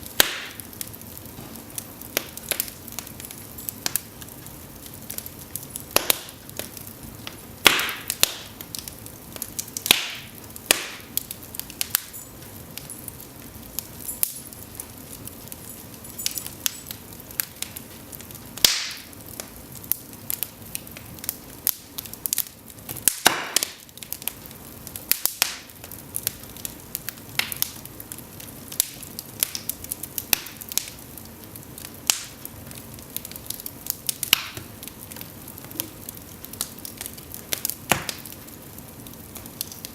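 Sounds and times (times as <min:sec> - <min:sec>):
fire popping: 0:00.0 - 0:39.9
logs crackling in fireplace: 0:00.0 - 0:39.9
low steady hiss: 0:00.0 - 0:39.9.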